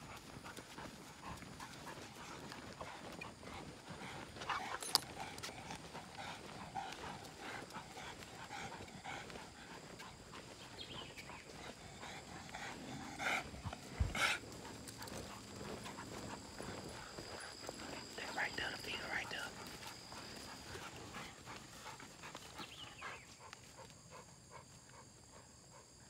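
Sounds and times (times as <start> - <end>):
footsteps on dirt track: 0.0 - 25.1
dogs moving: 0.1 - 23.9.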